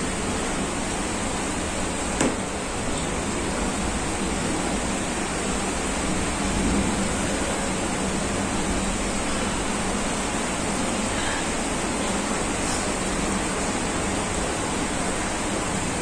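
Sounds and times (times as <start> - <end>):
heavy rain falling outside: 0.0 - 16.0.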